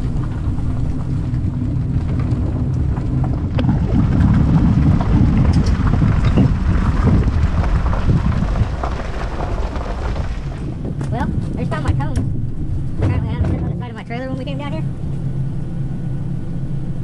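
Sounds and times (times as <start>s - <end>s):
tyres crunching on gravel: 0.0s - 13.7s
trailer rattling: 0.0s - 17.0s
vehicle engine hum: 0.0s - 17.0s.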